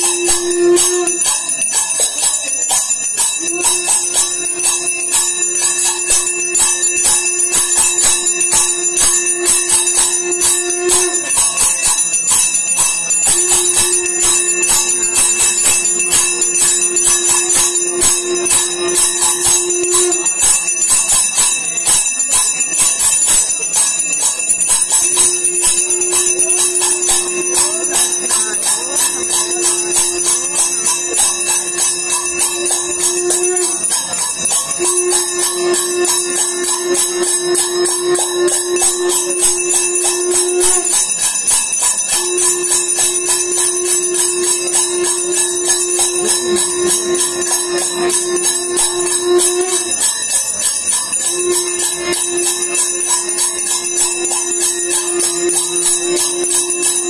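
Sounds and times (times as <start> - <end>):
steady low tone: 0.0 - 57.0
temple bells ringing rapidly: 0.0 - 57.0.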